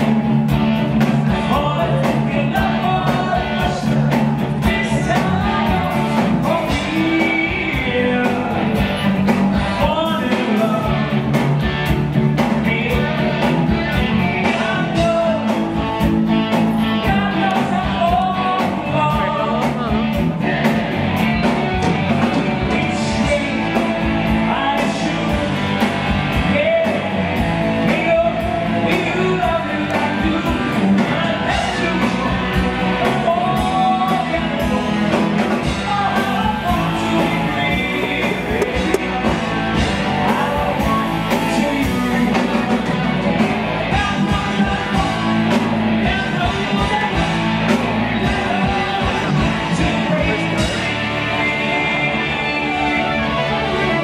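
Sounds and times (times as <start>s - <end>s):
bass guitar: 0.0s - 54.0s
drum kit: 0.0s - 54.0s
keyboards: 0.0s - 54.0s
man singing: 0.0s - 54.0s.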